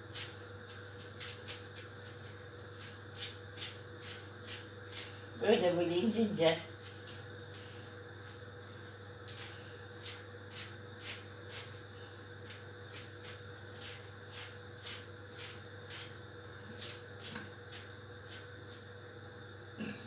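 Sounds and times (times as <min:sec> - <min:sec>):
steady low hum: 0:00.0 - 0:20.0
knife cutting lettuce: 0:00.1 - 0:05.2, 0:06.8 - 0:11.8, 0:12.4 - 0:18.8.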